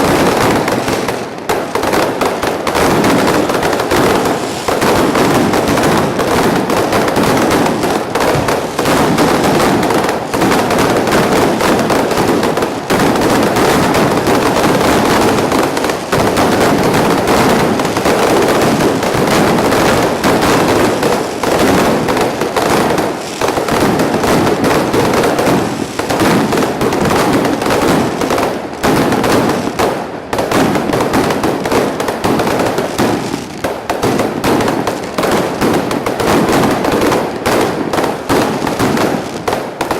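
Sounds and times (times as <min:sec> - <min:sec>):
firecrackers and fireworks banging: 0:00.0 - 0:39.9.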